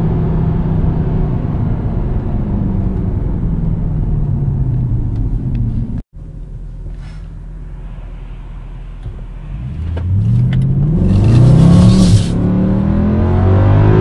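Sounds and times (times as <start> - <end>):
car engine slowing down: 0.0 - 14.0.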